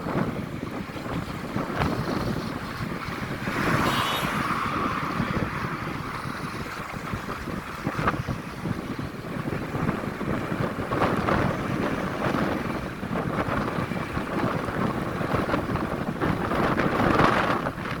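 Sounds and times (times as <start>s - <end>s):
truck driving rumble: 0.0s - 18.0s
wind buffeting microphone: 0.0s - 18.0s.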